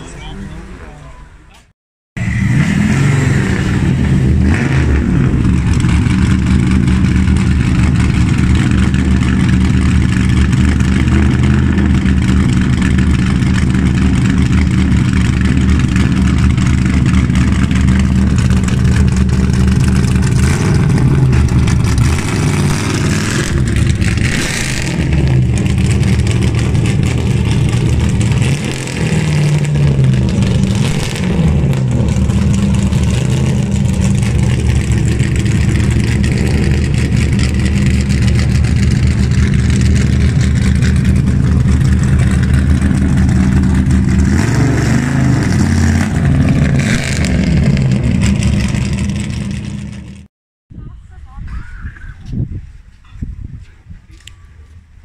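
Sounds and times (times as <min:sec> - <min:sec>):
car engine at low revs: 0:02.2 - 0:50.3.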